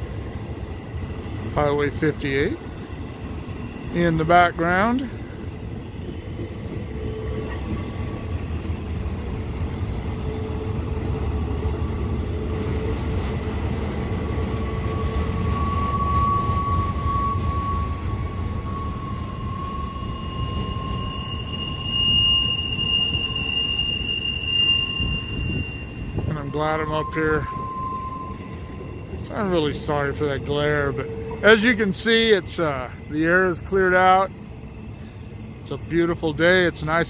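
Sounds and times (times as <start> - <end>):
freight train rumbling past: 0.0 - 37.0
train wheels squealing: 0.0 - 37.0.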